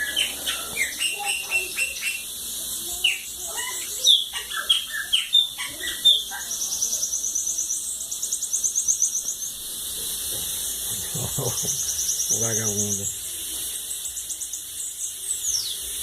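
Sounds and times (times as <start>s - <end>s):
bird chirping and trilling: 0.0s - 9.7s, 10.6s - 16.0s.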